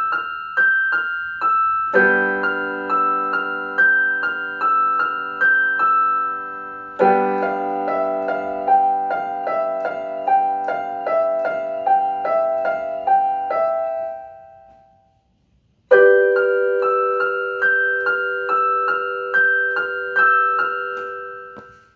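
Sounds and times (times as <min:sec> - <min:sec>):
repeated high piano notes: 0:00.0 - 0:15.2, 0:15.9 - 0:21.9
piano chords: 0:00.0 - 0:21.9.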